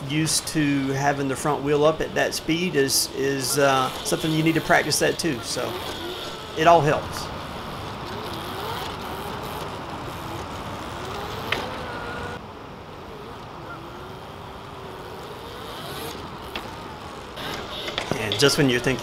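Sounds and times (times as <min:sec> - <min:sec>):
electric motorcycle motor whining: 0:00.0 - 0:19.0
wind hiss: 0:00.0 - 0:19.0.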